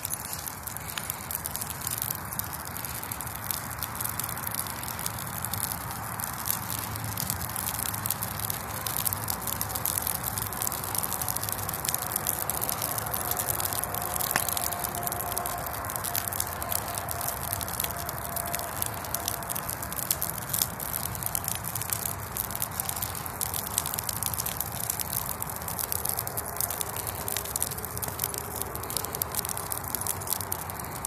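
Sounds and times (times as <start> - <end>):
bonfire crackling: 0.0 - 31.0.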